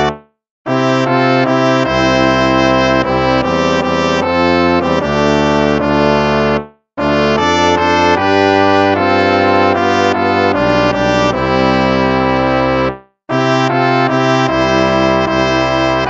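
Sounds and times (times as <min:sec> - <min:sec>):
instrumental hymn in brass-like chords: 0:00.0 - 0:16.0.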